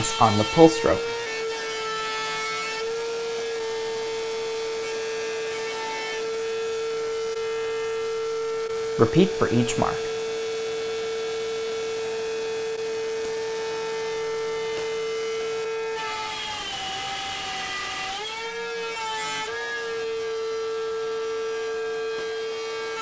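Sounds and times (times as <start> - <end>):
router whining: 0.0 - 23.0.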